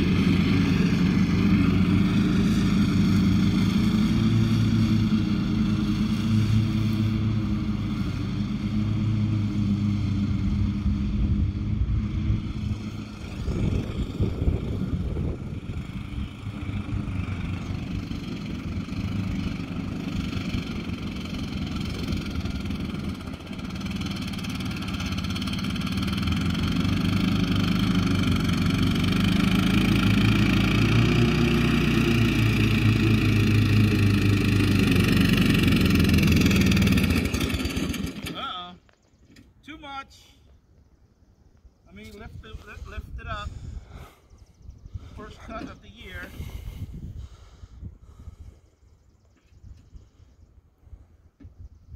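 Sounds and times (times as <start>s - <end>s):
lawn mower engine running: 0.0s - 40.0s, 41.9s - 48.6s.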